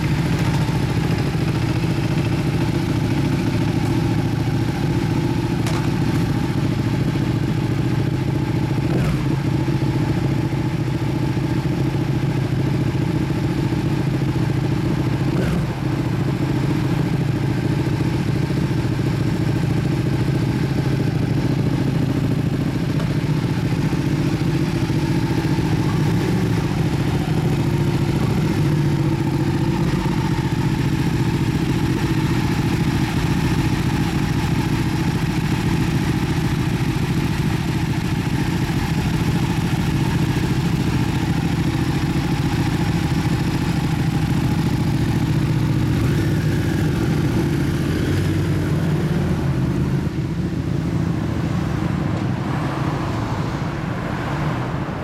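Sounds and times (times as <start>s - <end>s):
motorcycle engines idling: 0.0s - 52.5s.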